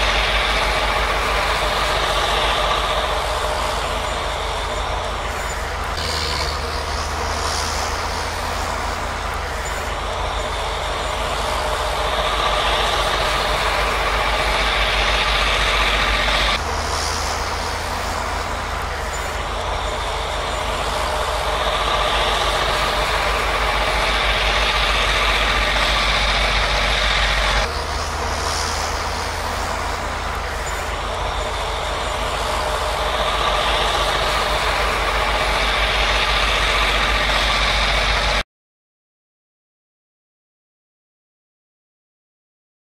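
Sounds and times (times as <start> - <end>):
locomotive low rumble: 0.0 - 38.4.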